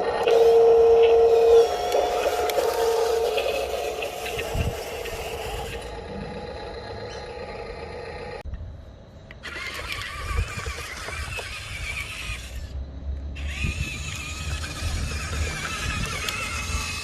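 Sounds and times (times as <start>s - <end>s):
electric motor whining: 0.0s - 8.4s, 9.4s - 12.8s, 13.4s - 17.0s.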